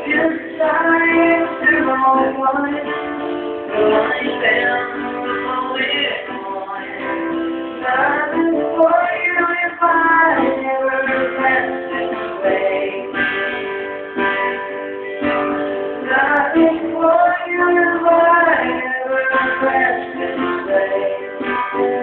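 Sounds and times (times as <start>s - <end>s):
person singing: 0.0s - 13.8s, 15.9s - 22.0s
acoustic guitar: 0.0s - 22.0s.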